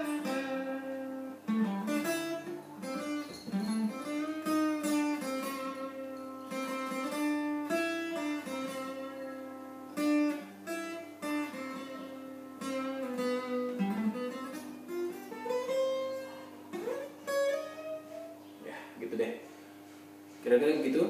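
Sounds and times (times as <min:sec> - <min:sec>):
acoustic guitar strummed and picked: 0:00.0 - 0:18.6.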